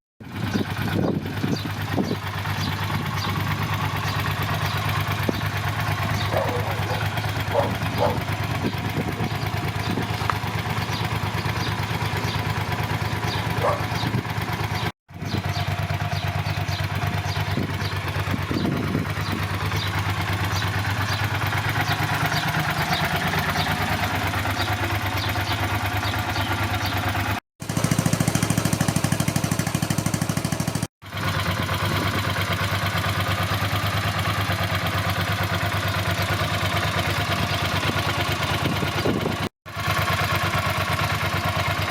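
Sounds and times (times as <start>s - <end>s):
motorcycle engine idling: 0.2s - 41.9s.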